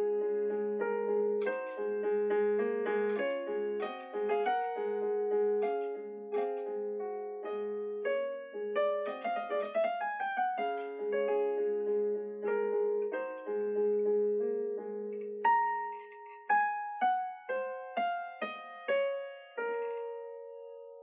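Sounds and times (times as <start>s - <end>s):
digital piano melody: 0.0s - 21.0s.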